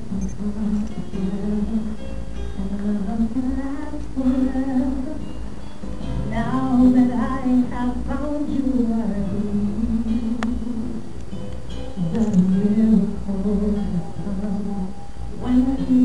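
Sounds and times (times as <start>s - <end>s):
music: 0.0s - 16.0s
woman singing slow song: 0.0s - 16.0s.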